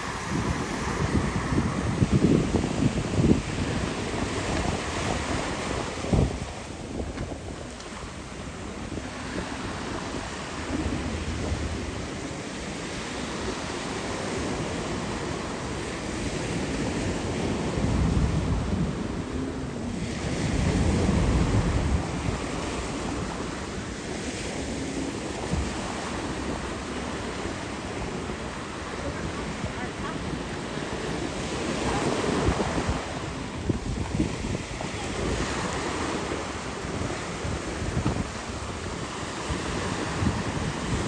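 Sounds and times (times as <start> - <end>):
rushing water and surf: 0.0 - 41.0
wind buffeting microphone: 0.0 - 41.0.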